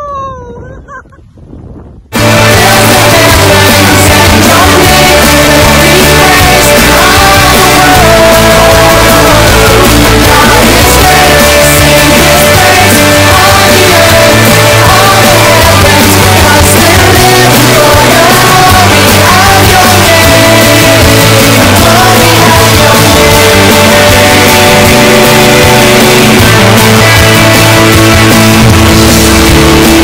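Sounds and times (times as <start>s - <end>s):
rock worship song with band: 2.2s - 30.0s.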